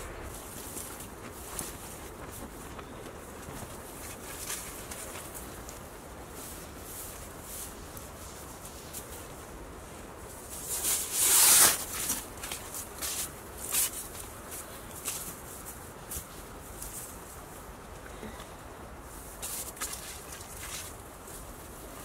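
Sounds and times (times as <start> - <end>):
conifer boughs rustling: 0.0 - 22.0.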